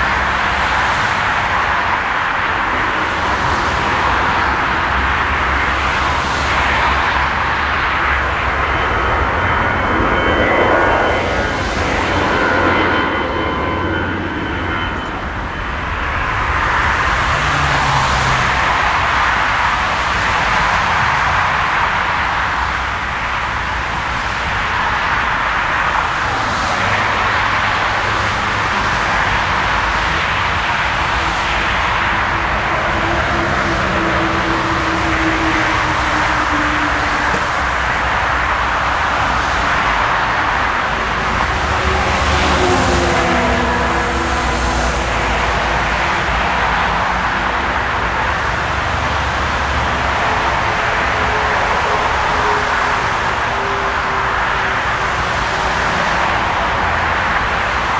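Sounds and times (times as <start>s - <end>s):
jet engine whine: 0.0s - 57.9s
jet engines roaring: 0.0s - 57.9s.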